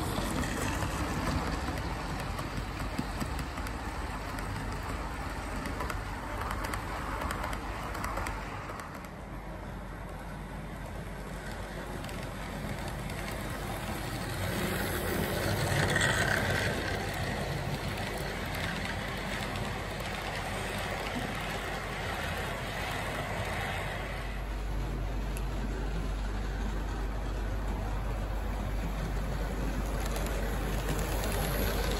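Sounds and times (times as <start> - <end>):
model train rolling on track: 0.0 - 31.9.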